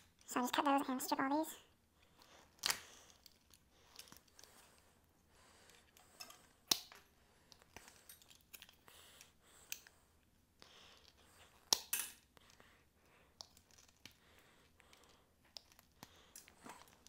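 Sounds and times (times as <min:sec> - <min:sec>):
wires rustling: 0:00.0 - 0:17.0.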